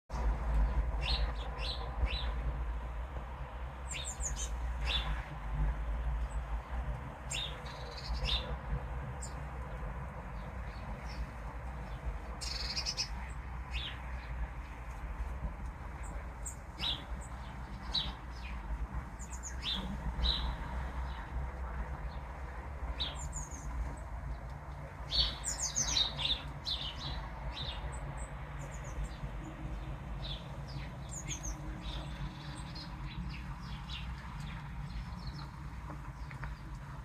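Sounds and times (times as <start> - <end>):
songbirds chirping and singing: 0.1 - 37.0.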